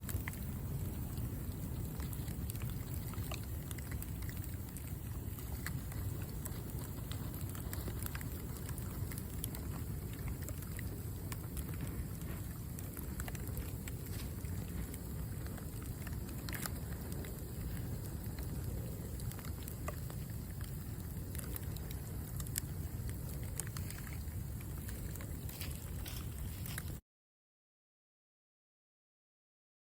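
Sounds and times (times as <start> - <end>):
charcoal fire crackling and popping: 0.0 - 27.0
steady low rumble: 0.0 - 27.0.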